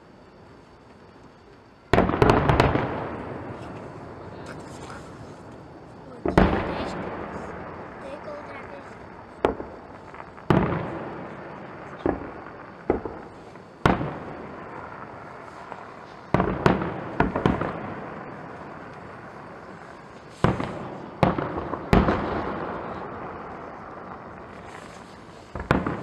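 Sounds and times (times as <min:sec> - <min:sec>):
fireworks booming: 0:01.8 - 0:26.0.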